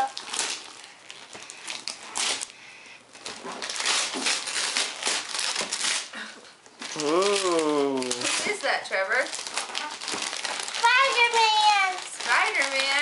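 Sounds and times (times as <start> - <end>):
wrapping paper tearing and crinkling: 0.0 - 13.0.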